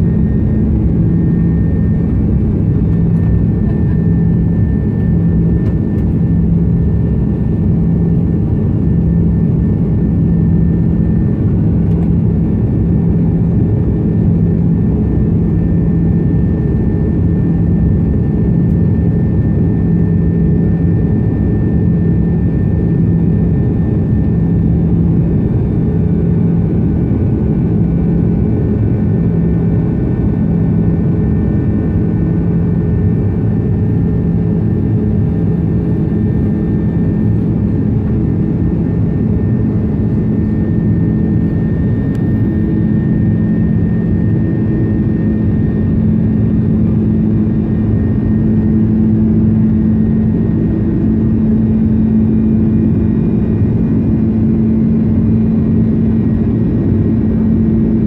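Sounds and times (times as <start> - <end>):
jet airliner cabin drone: 0.0 - 58.0.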